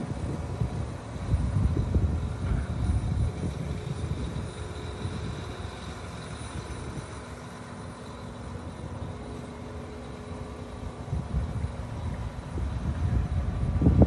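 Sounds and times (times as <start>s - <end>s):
tractor diesel engine running: 0.0s - 14.0s
wind buffeting microphone: 0.0s - 14.0s.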